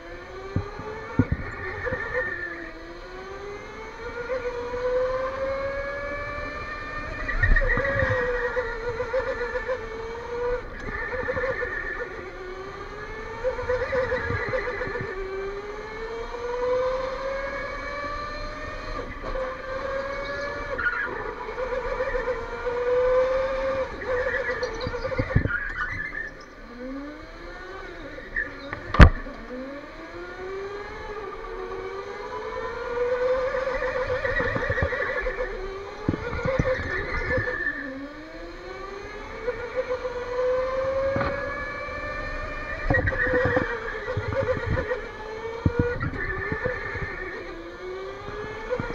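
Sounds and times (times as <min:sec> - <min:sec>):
electric go-kart motor whining: 0:00.0 - 0:48.9.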